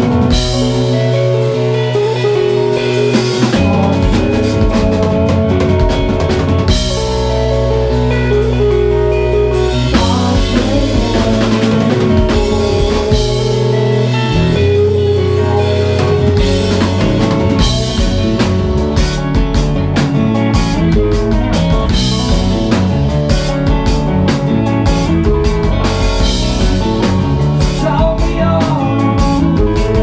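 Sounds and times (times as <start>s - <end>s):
bass: 0.0s - 30.0s
drum kit: 0.0s - 30.0s
electric guitar lines: 0.0s - 30.0s.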